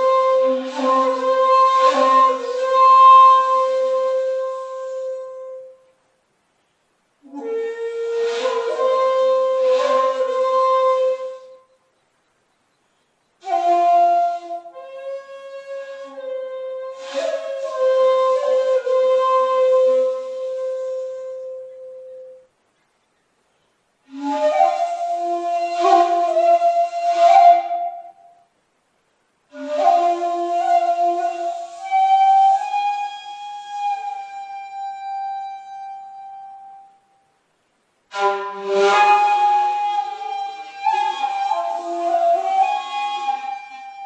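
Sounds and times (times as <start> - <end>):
bamboo flute playing solo: 0.0 - 6.0, 7.2 - 12.4, 13.4 - 22.6, 24.0 - 37.4, 38.1 - 44.0.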